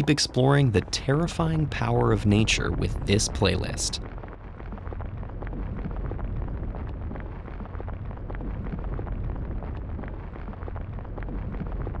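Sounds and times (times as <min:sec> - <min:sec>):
crackles and pops: 0:00.0 - 0:12.0
deep steady rumble: 0:00.0 - 0:12.0.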